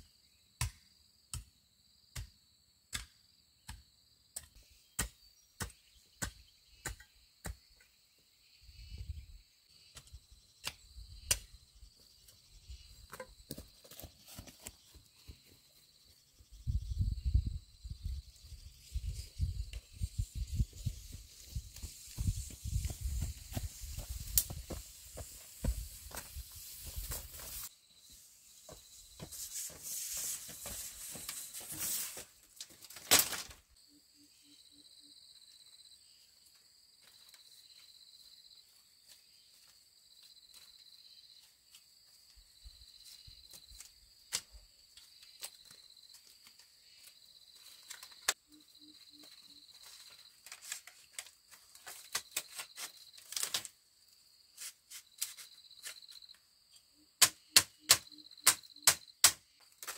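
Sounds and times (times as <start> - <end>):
insects trilling: 3.6 - 59.9.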